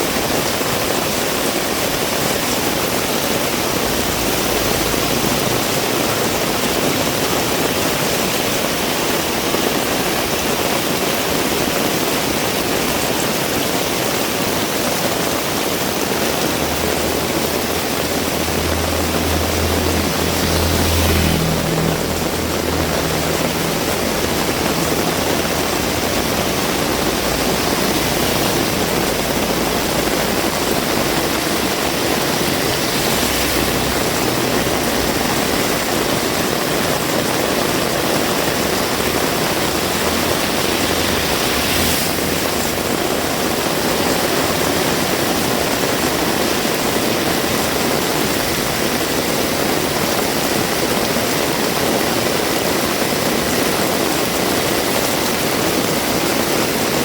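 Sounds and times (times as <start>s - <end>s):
heavy rain hissing: 0.0s - 57.0s
vehicle engine hum: 0.0s - 57.0s.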